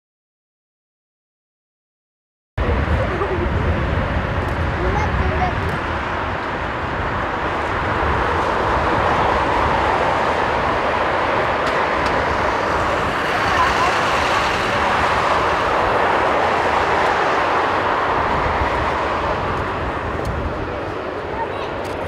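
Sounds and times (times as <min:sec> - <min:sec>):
jet engines roaring: 0:02.6 - 0:22.0.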